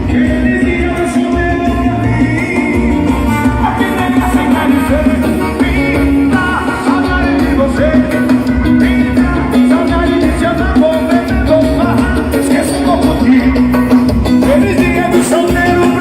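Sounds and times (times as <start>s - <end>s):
loud music with heavy bass: 0.0s - 16.0s
person singing: 0.0s - 16.0s.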